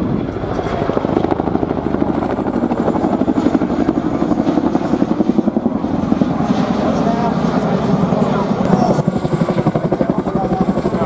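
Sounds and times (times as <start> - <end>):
helicopter rotor blade chop: 0.0 - 11.0.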